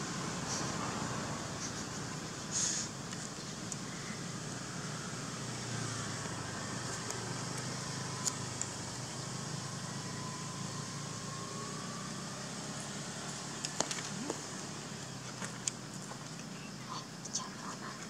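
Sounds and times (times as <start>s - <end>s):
low hum of distant traffic: 0.0s - 18.0s.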